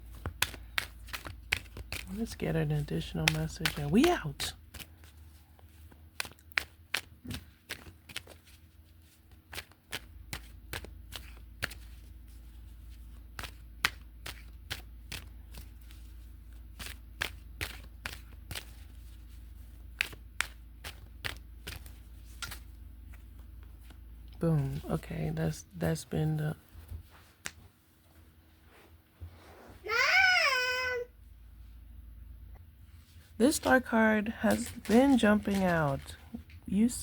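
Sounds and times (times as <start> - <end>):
cards being shuffled: 0.0 - 25.5, 26.3 - 27.7, 33.0 - 37.0.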